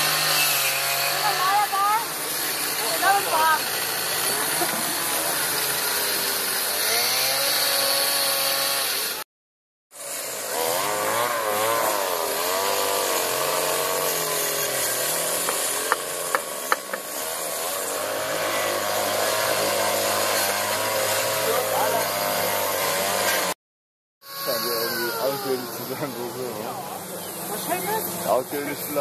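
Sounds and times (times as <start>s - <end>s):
chainsaws cutting wood: 0.0s - 9.3s, 9.9s - 23.6s, 24.2s - 29.0s.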